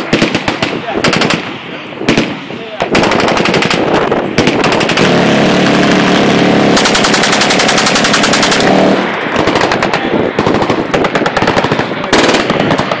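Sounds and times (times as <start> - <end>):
machine-gun fire: 0.0 - 13.0.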